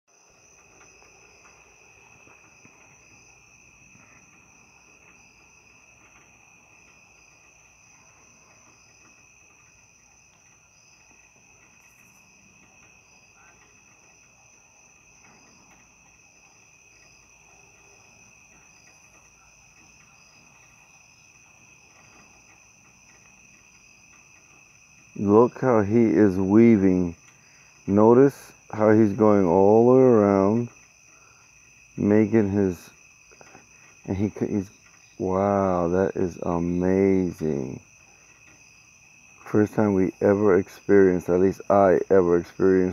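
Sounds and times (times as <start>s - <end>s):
crickets trilling: 0.1s - 42.9s
pulsing insect call: 0.1s - 42.9s.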